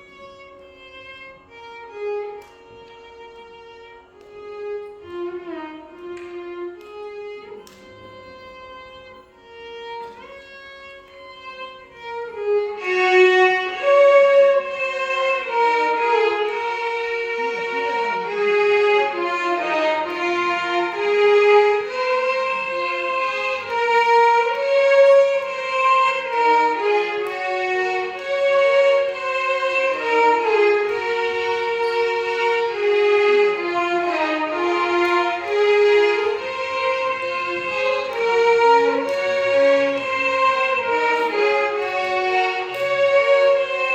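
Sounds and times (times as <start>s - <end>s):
violin orchestra melody: 0.0s - 43.9s.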